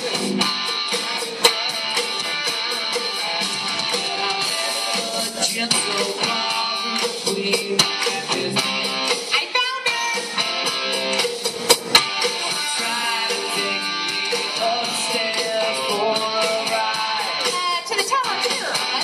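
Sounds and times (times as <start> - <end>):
strummed guitar: 0.0 - 9.3, 10.0 - 19.0
live rock band playing: 0.0 - 19.0.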